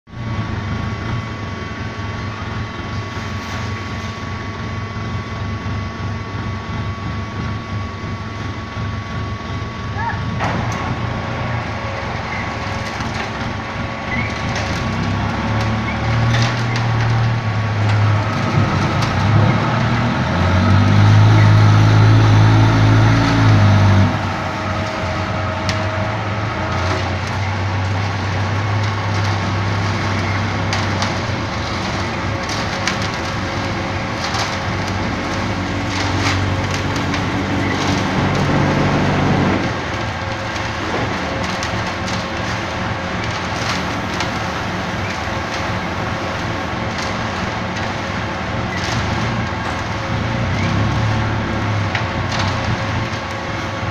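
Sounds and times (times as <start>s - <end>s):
diesel engine running: 0.0s - 53.9s
machine knocking and clatter: 3.7s - 53.9s.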